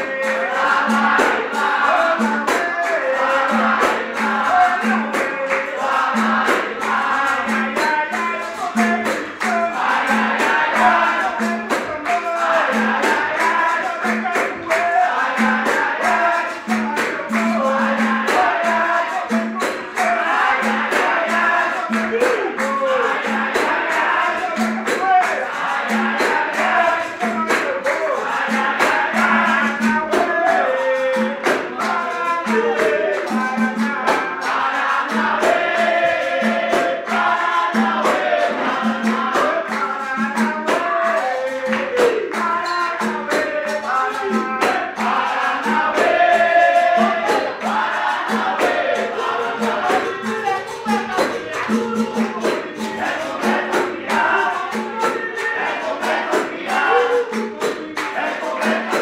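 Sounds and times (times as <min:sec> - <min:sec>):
hand percussion: 0:00.0 - 0:59.0
jingling tambourine beat: 0:00.0 - 0:59.0
voices singing together: 0:00.0 - 0:59.0.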